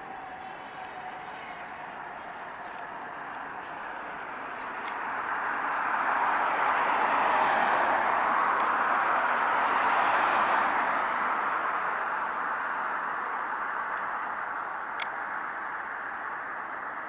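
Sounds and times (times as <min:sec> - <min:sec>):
car approaching on road: 0:00.0 - 0:17.0.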